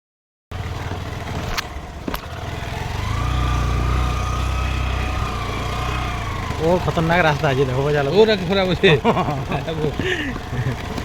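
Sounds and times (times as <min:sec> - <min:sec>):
small motorbike engine running: 0:00.5 - 0:11.0.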